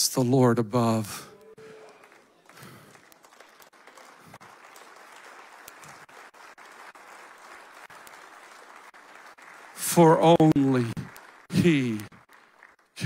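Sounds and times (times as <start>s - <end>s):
audience applauding: 1.3s - 13.0s.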